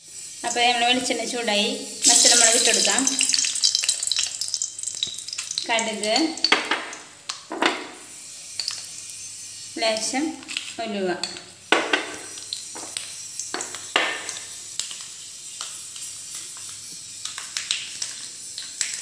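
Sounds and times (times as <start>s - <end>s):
frying sizzle: 0.0s - 19.0s.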